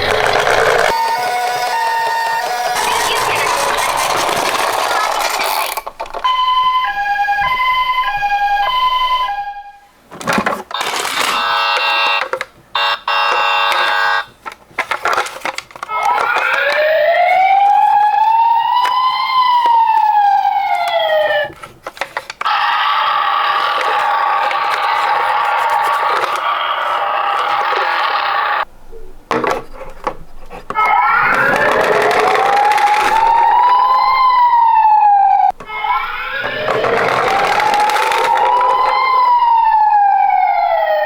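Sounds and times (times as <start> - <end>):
toy electronic siren: 0.0 - 28.7, 30.7 - 41.0.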